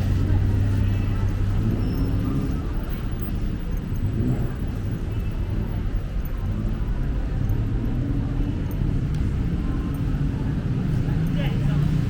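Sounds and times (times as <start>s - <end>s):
road traffic rumble: 0.0s - 12.0s
vehicle engines running close: 0.0s - 12.0s.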